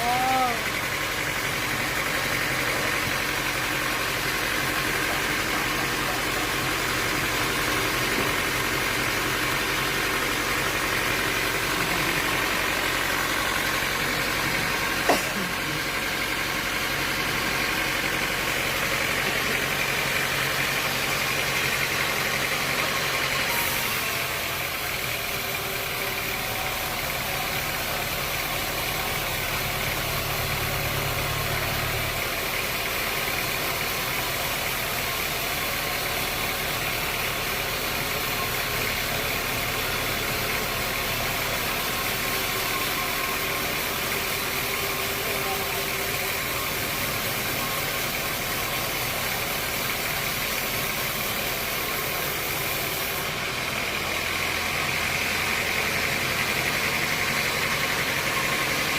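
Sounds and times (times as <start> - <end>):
sawmill machinery humming: 0.0 - 58.9.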